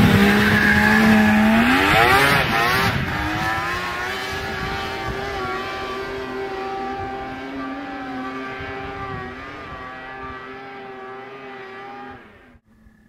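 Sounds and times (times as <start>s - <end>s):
snowmobile engine revving: 0.0s - 12.6s.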